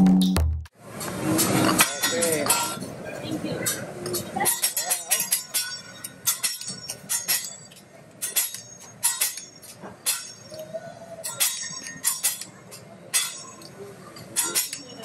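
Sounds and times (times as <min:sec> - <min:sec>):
metal spatula and knife clinking: 0:01.4 - 0:02.9, 0:03.7 - 0:15.0.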